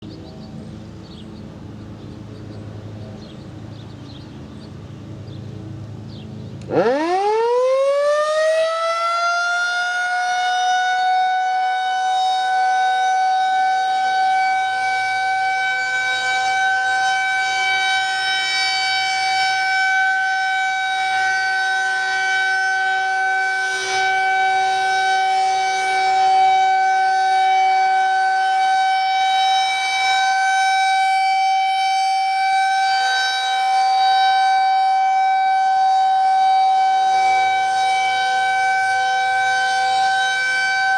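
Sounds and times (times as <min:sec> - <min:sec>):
tornado siren wailing: 0:06.6 - 0:40.9.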